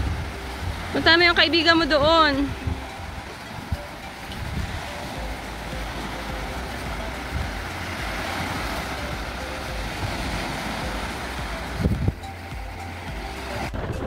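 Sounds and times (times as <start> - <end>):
small waves washing ashore: 0.0 - 14.0
wind rumbling on microphone: 0.0 - 14.0.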